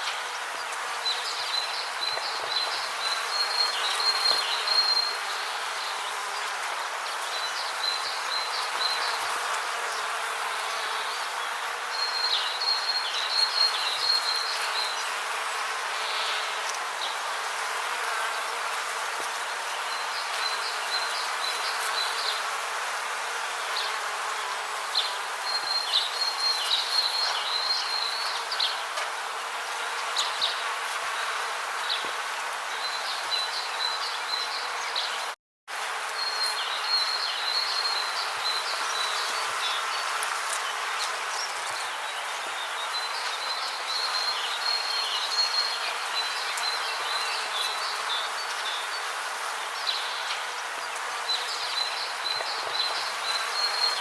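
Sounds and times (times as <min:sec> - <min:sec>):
rainforest hiss: 0:00.0 - 0:35.2, 0:35.8 - 0:54.0.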